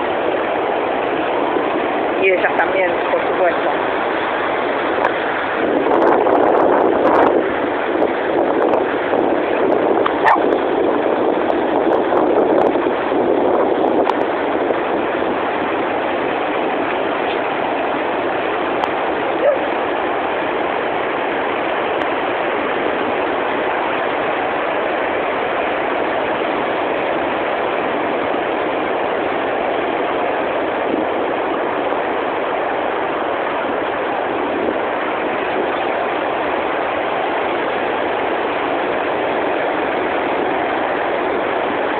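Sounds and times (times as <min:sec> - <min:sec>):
sea waves breaking on beach: 0:00.0 - 0:41.9.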